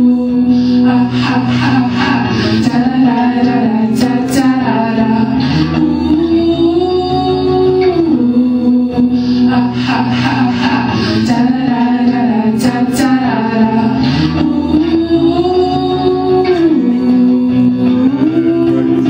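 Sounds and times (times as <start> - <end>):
slow melody of long held notes: 0.0 - 19.0.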